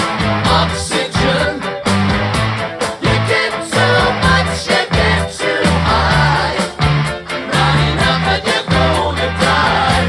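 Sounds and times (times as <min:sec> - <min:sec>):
upbeat song with singing: 0:00.0 - 0:10.0.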